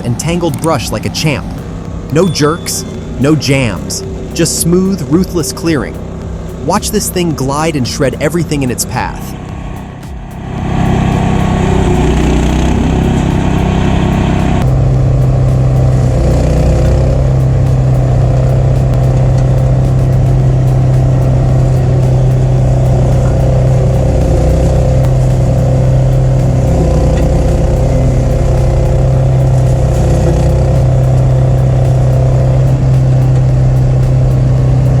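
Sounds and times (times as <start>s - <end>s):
brush cutter engine running: 0.0s - 35.0s.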